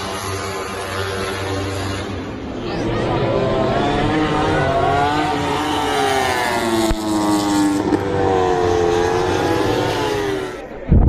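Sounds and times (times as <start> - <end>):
racing motorcycle engines revving: 0.0 - 10.9.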